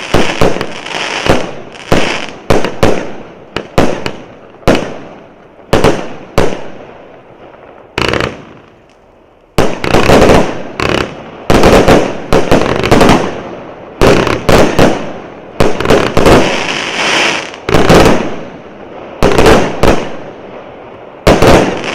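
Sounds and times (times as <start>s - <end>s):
fireworks firing bangs: 0.0s - 21.9s.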